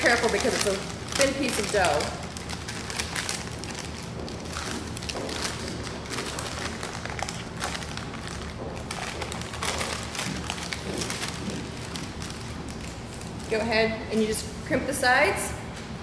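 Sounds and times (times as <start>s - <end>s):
wax paper rustling and crackling: 0.0s - 13.7s
steady low hum: 0.0s - 16.0s.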